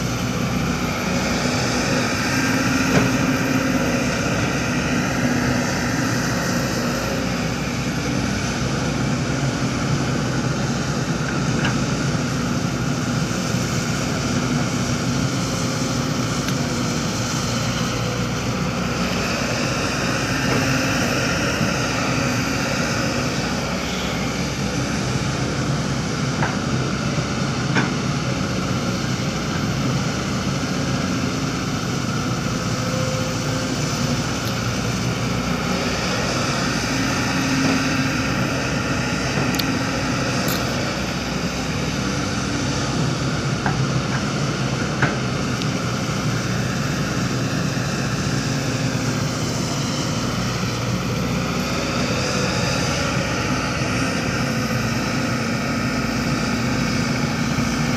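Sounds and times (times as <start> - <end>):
construction machinery engines droning: 0.0 - 57.9.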